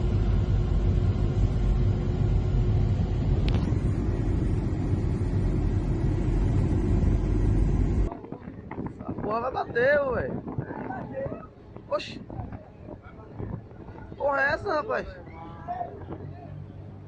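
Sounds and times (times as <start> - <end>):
motorboat engine rumble: 0.0 - 17.0.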